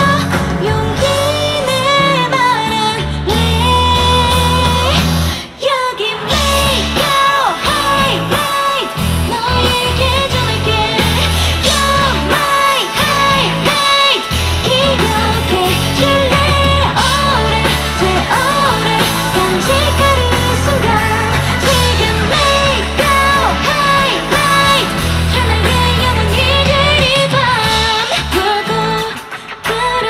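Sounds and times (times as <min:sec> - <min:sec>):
band playing with drums: 0:00.0 - 0:05.4, 0:06.2 - 0:30.0
woman singing into a microphone: 0:00.0 - 0:30.0.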